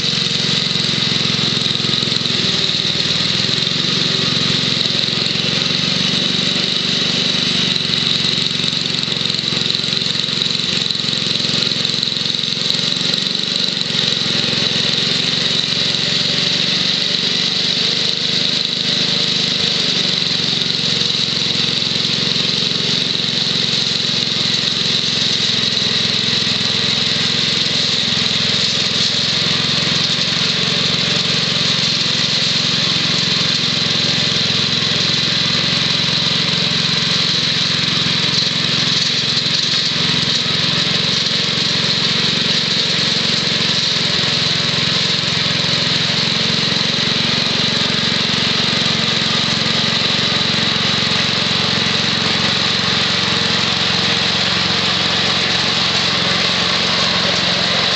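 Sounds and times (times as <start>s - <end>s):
small engine running under load: 0.0s - 57.9s.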